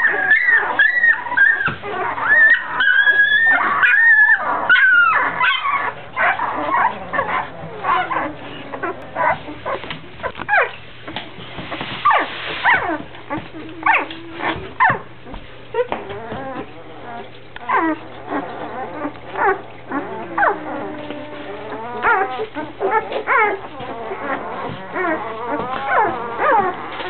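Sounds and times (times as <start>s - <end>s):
puppies squealing and whimpering: 0.0s - 27.0s.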